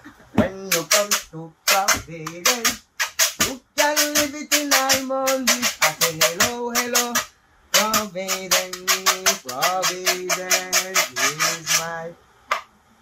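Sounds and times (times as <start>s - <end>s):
man singing: 0.3s - 12.2s
cane scraper rubbed with wire fork: 0.7s - 12.0s.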